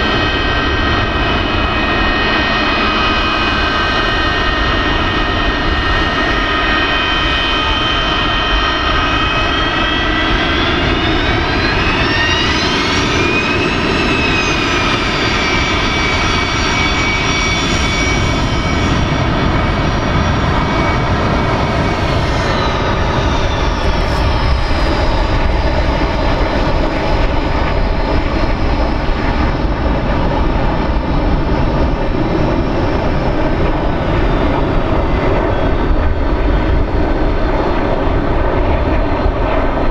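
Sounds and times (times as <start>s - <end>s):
jet engines whining and rumbling: 0.0s - 39.9s.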